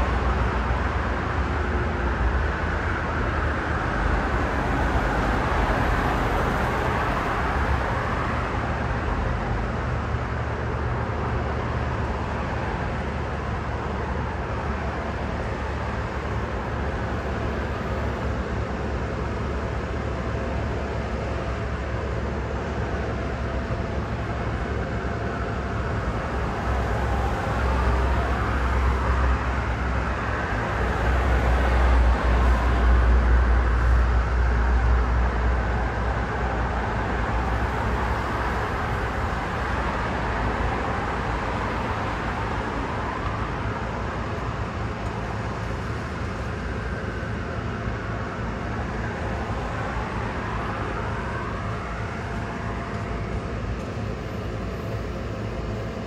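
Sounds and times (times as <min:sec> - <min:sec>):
cars passing by: 0:00.0 - 0:56.0
low traffic rumble: 0:00.0 - 0:56.0.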